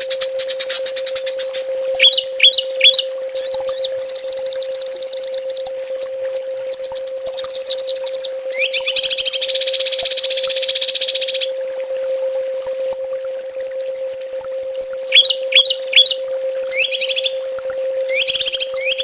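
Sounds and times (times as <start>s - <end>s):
songbird trilling: 0.0s - 11.5s, 12.9s - 17.4s, 18.1s - 19.0s
steady low tone: 0.0s - 19.0s.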